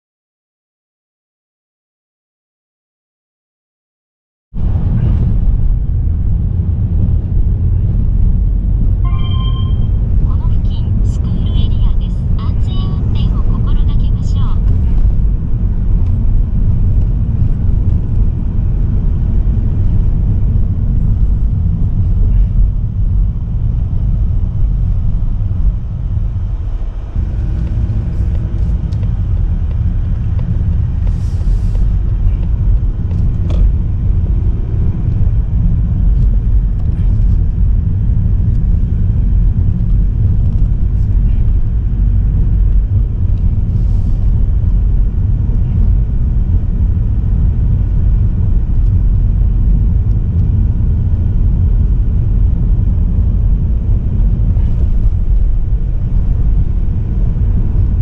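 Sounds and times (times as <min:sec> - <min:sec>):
car road rumble inside cabin: 0:04.6 - 0:58.0.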